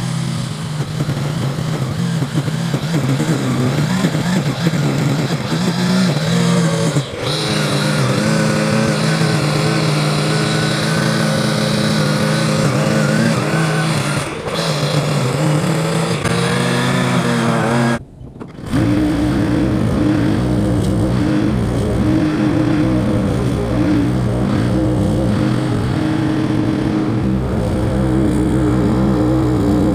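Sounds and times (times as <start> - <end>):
small gasoline engine running: 0.0 - 29.9.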